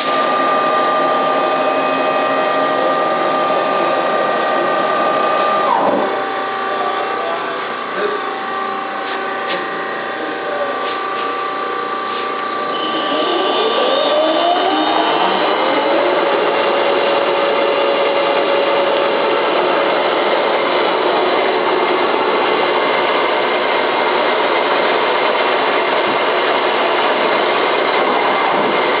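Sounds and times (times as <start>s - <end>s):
machine running with whine: 0.0s - 29.0s.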